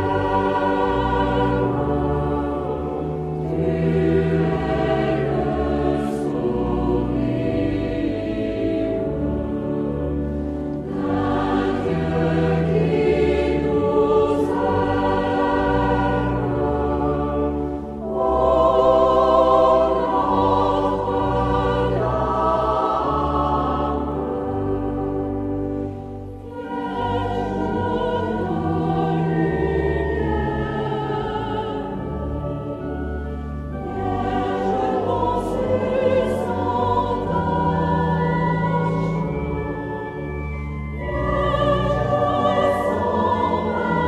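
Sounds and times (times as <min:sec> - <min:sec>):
choir singing a hymn: 0:00.0 - 0:44.0
low sustained accompaniment: 0:00.0 - 0:44.0.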